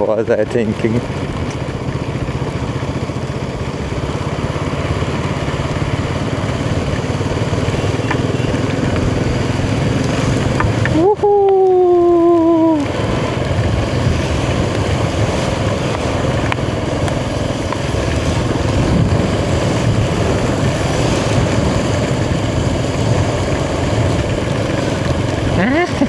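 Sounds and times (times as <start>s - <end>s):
motorcycle engine running: 0.0s - 26.0s
wind and rain noise: 0.0s - 26.0s.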